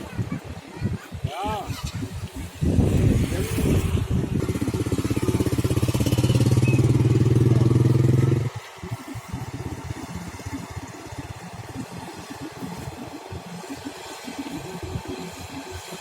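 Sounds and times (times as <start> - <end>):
engine running: 2.5 - 16.0.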